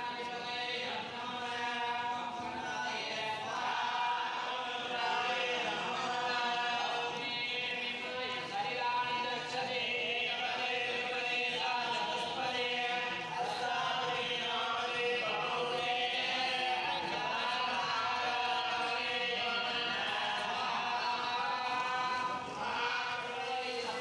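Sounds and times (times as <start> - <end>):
priests chanting in unison: 0.0 - 24.0.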